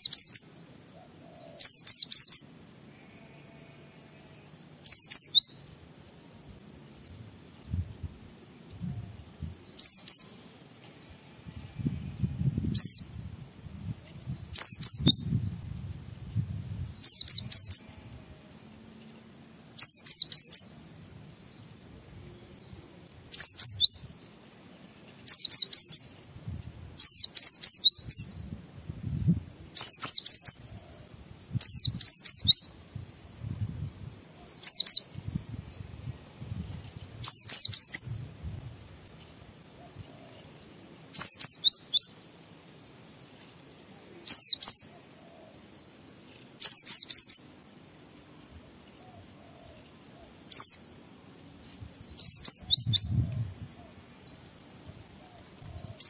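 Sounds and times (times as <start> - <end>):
bird singing high phrases: 0.0 - 7.8, 8.8 - 18.2, 19.8 - 21.7, 22.3 - 36.6, 37.2 - 38.3, 40.8 - 47.7, 50.2 - 54.6.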